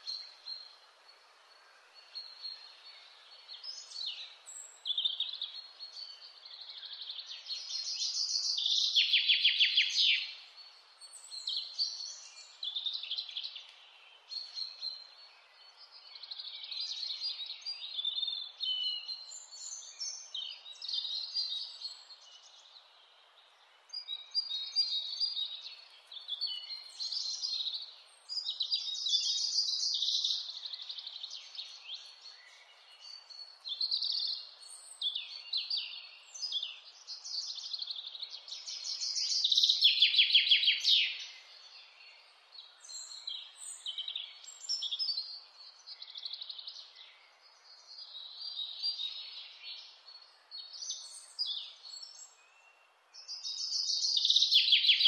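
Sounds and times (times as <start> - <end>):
faint steady hiss: 0.0 - 54.9
songbirds chirping and trilling: 0.0 - 55.0.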